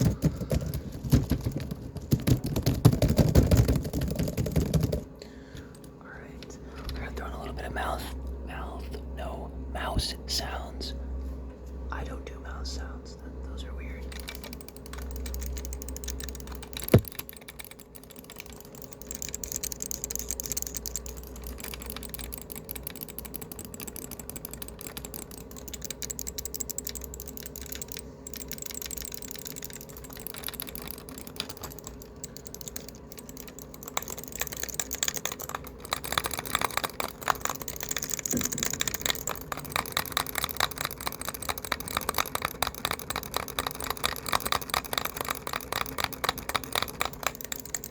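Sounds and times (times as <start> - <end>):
fast typing on laptop keyboard: 0.0 - 5.2, 14.0 - 47.9.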